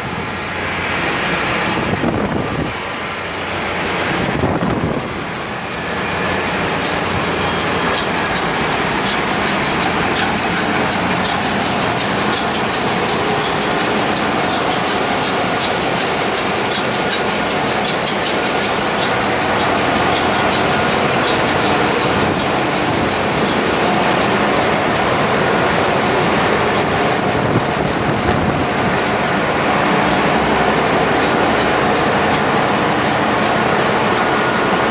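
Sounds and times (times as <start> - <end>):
engine-room machinery din: 0.0 - 34.9.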